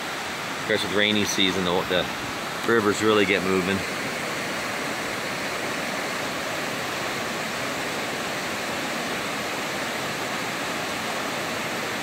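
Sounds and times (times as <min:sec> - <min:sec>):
river rushing over boulders: 0:00.0 - 0:12.0.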